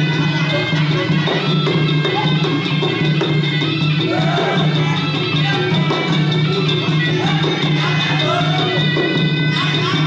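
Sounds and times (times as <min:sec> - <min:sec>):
cymbals: 0:00.0 - 0:10.0
drum beats: 0:00.0 - 0:10.0
oboe playing wavering lines: 0:00.0 - 0:10.0.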